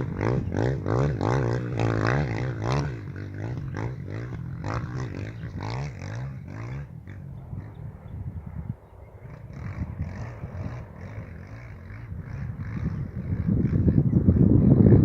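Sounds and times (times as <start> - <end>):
motorcycle engine revving: 0.0 - 8.5, 9.2 - 15.0.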